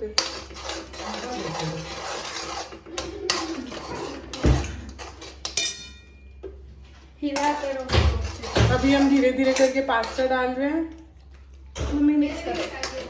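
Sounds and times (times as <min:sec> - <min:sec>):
spoon stirring and scraping pan: 0:00.0 - 0:13.0.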